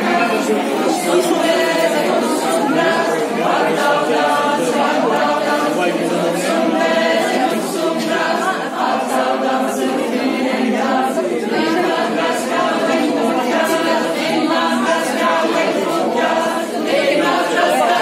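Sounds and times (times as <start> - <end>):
group singing unaccompanied: 0.0 - 18.0.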